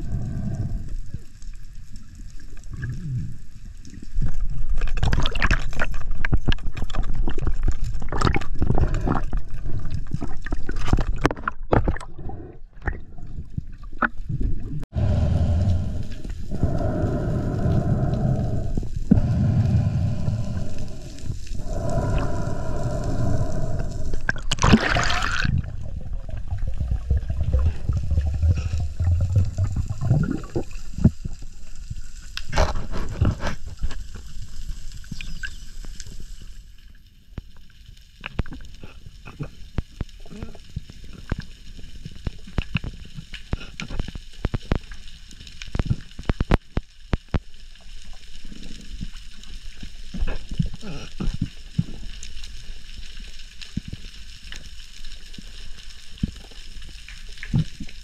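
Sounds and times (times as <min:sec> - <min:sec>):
underwater water gurgling: 0:00.0 - 0:36.8, 0:37.8 - 0:58.0.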